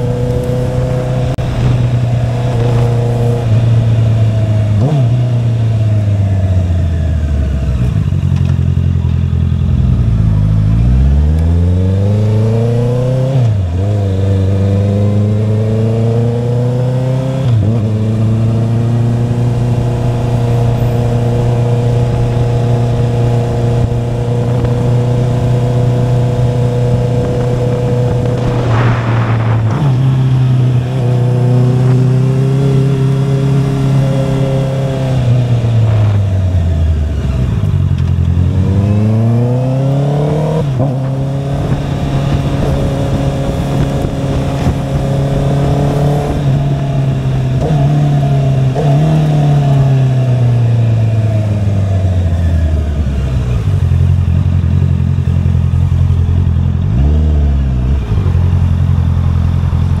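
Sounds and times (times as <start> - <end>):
motorcycle engine running: 0.0 - 11.3, 17.6 - 39.4, 40.1 - 60.0.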